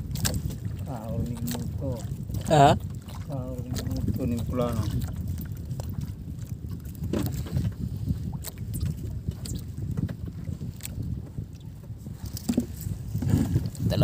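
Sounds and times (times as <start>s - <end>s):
wind and water past hull: 0.0s - 14.0s.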